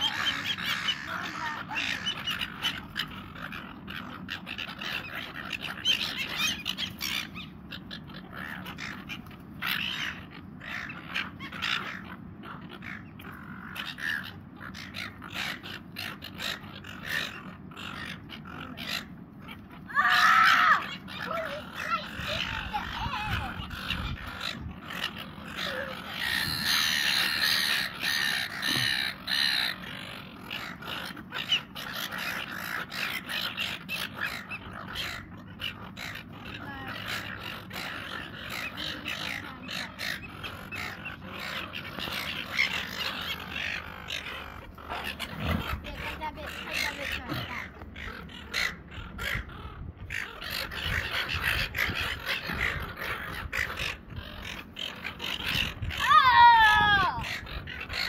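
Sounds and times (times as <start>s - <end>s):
seagulls squawking: 0.0s - 58.0s.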